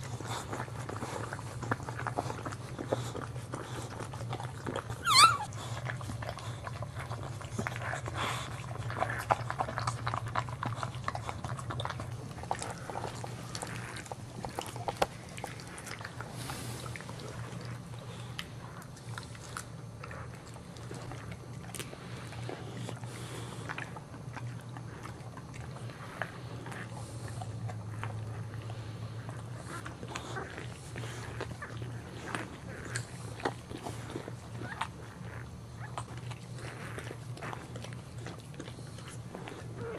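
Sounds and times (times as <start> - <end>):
dog licking and chewing: 0.0 - 39.9
steady low hum: 0.0 - 39.9.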